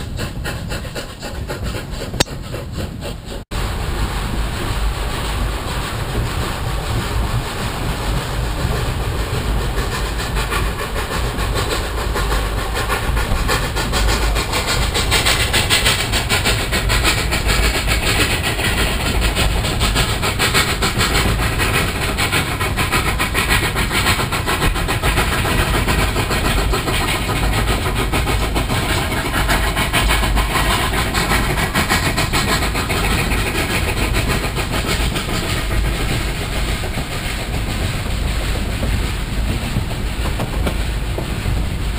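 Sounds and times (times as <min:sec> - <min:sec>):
train rumble and rail clatter: 0:00.0 - 0:41.9.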